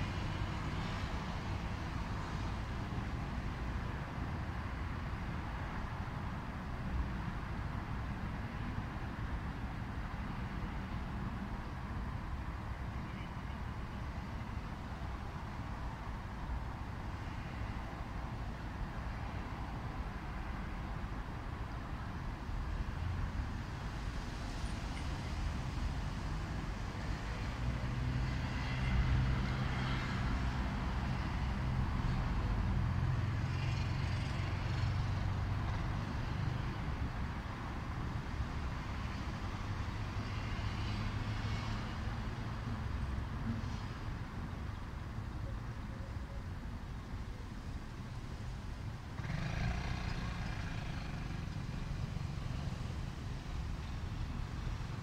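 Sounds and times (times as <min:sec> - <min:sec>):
passing cars and tyre noise: 0:00.0 - 0:55.0.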